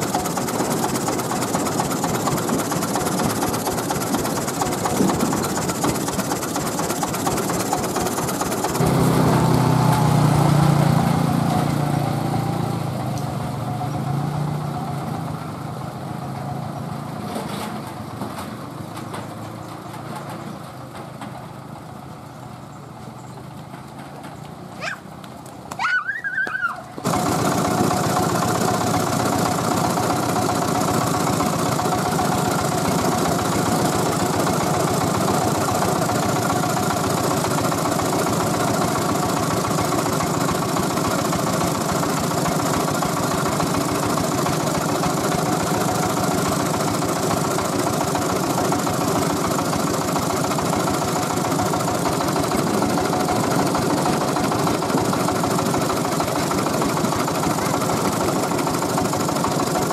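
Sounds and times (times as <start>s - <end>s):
diesel engine running steadily: 0.0s - 25.8s, 26.4s - 59.9s.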